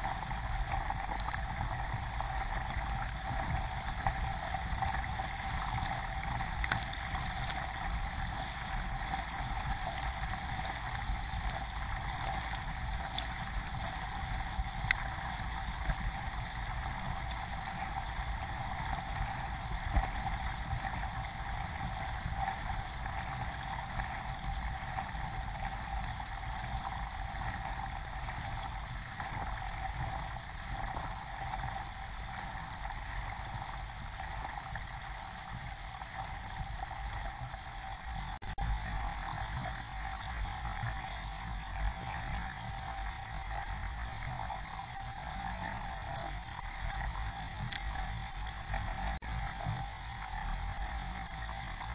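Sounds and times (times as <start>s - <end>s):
steady whine: 0.0s - 51.9s.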